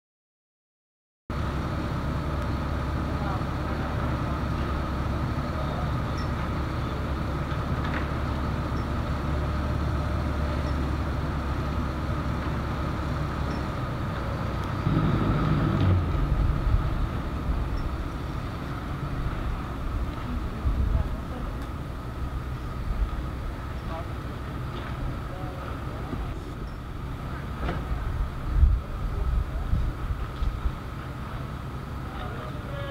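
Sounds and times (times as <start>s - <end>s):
vehicle engine rumble: 1.3s - 32.9s.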